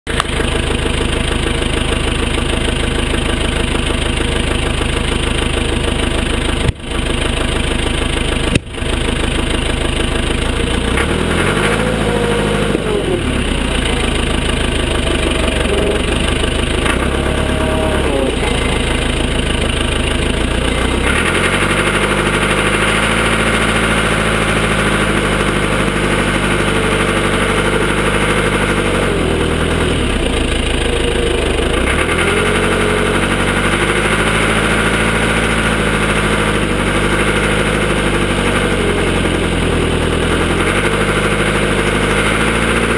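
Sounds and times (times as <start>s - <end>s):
diesel engine revving: 0.1s - 42.9s.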